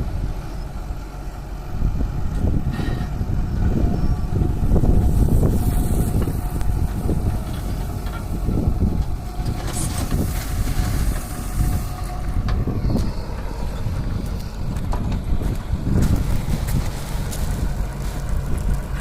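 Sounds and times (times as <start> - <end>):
excavator diesel engine rumbling: 0.0 - 19.0.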